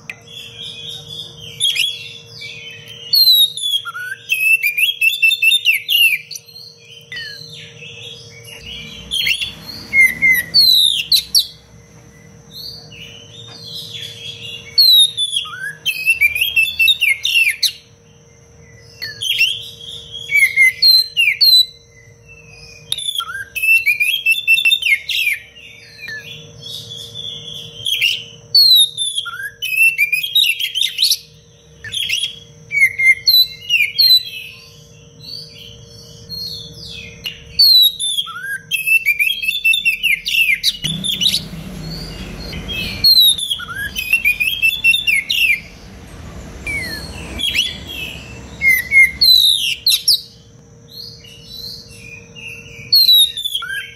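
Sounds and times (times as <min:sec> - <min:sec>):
bird singing whistled phrases: 0:00.0 - 0:11.6, 0:13.3 - 0:17.9, 0:18.9 - 0:45.8, 0:46.6 - 0:50.4, 0:51.0 - 0:53.9.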